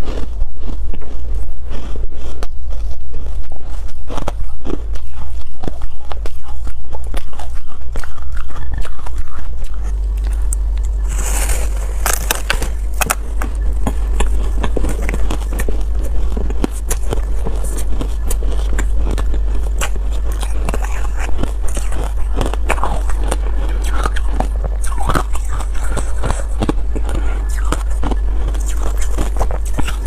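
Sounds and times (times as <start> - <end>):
ice being chewed and crunched: 0.0 - 30.0.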